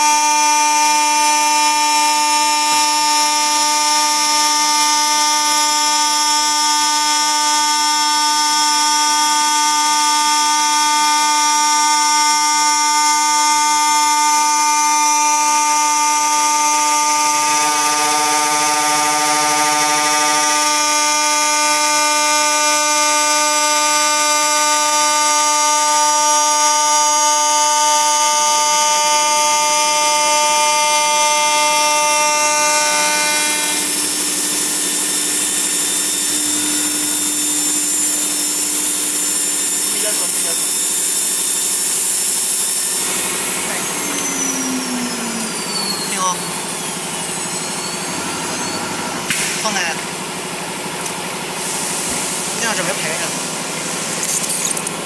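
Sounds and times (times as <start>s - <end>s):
machine spindle high-pitched whine: 0.0s - 55.0s.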